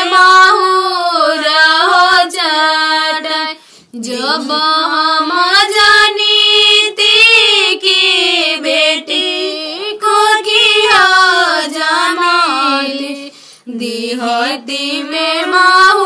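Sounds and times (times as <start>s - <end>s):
high voice singing folk song: 0.0s - 16.0s.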